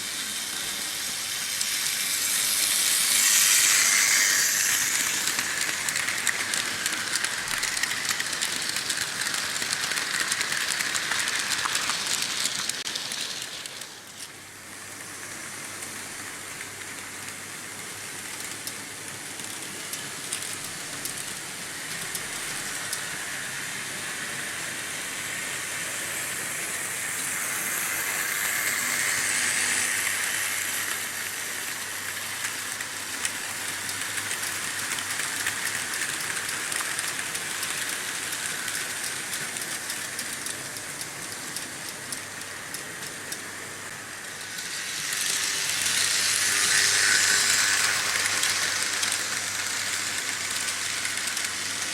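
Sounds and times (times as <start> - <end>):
model train wheels rolling on rails: 0.0 - 51.9.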